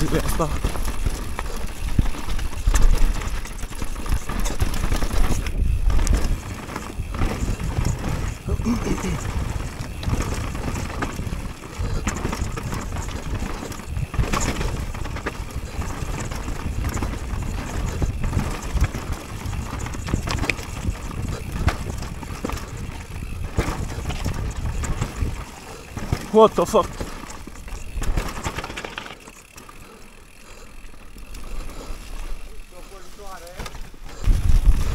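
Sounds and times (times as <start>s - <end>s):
tyres and wind rushing: 0.0s - 32.8s, 33.4s - 34.9s
bike clicks and rattles: 0.0s - 34.9s.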